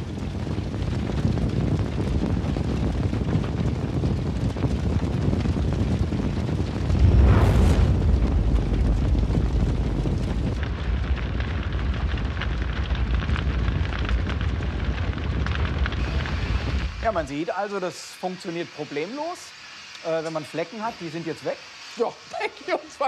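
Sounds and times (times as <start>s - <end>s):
deep rumble of flames: 0.0s - 23.0s
fire crackling: 0.0s - 23.0s.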